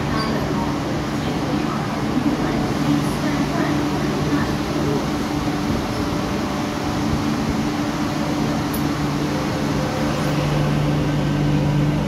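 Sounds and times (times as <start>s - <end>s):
metro train traction hum: 0.0s - 12.0s
train rumbling in motion: 0.0s - 12.0s.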